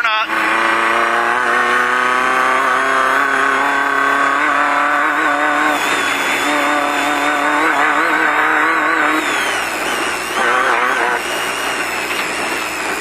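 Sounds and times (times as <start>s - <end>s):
race car engine revving high: 0.0s - 13.0s.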